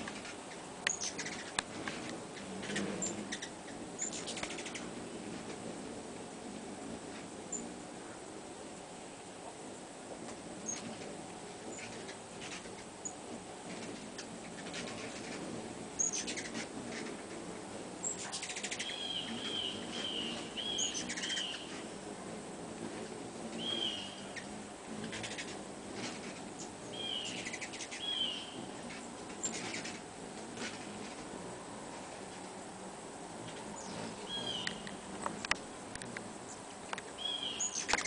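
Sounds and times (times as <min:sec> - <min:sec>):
faint steady hum: 0:00.0 - 0:38.0
hummingbirds chirping: 0:00.0 - 0:38.0.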